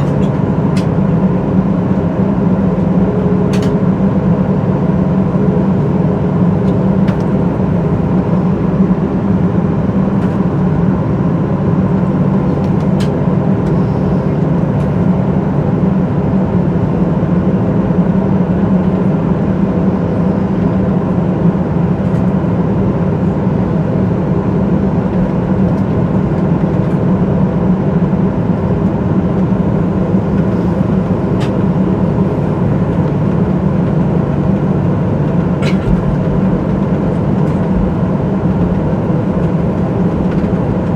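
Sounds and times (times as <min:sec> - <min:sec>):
jet engines heard in cabin: 0:00.0 - 0:40.9.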